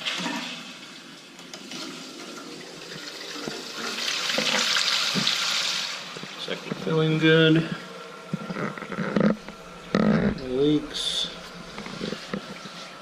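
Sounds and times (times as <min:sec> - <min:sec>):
water hissing into toilet tank: 0:00.0 - 0:13.0.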